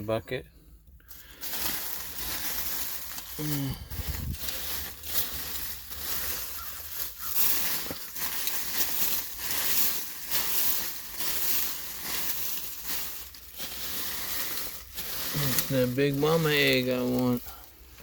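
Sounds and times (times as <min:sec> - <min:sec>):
digging through dry leaves: 0:01.1 - 0:18.0.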